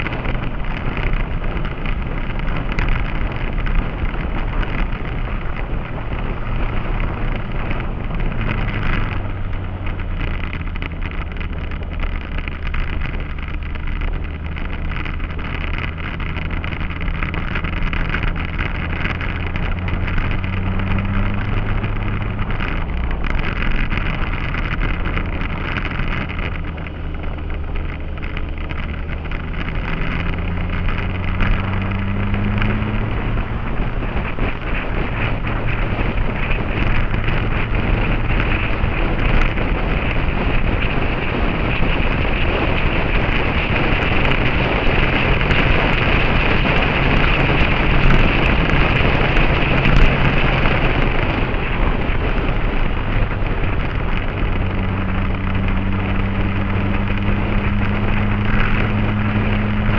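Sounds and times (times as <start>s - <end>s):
motorcycle engine accelerating: 0.0s - 59.9s
wind noise on microphone: 0.0s - 59.9s.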